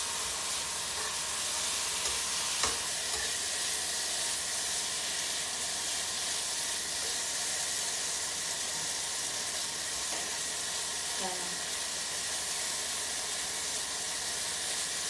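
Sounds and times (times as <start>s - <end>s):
chicken sizzling in a wok: 0.0s - 15.0s.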